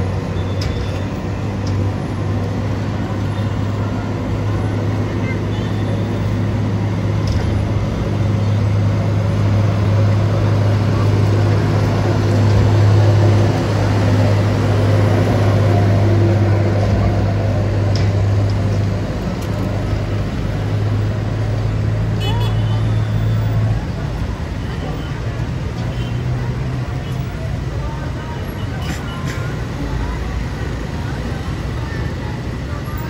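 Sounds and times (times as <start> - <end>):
slow road traffic: 0.0 - 33.0.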